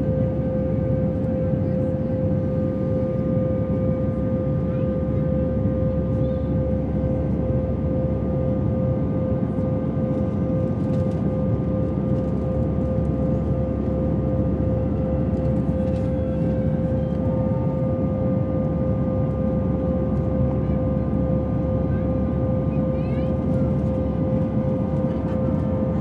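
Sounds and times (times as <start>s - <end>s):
constant high hum: 0.0s - 26.0s
jet engine and airflow roar: 0.0s - 26.0s.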